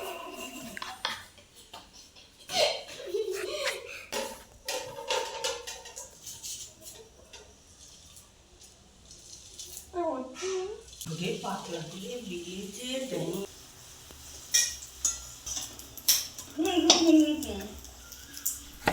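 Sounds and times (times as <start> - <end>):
utensils and dishes clinking: 0.0 - 11.8, 14.4 - 18.9.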